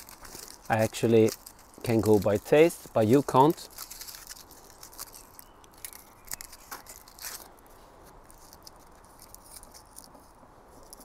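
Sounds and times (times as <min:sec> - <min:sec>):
aluminium foil crackling and rustling: 0:00.0 - 0:11.0.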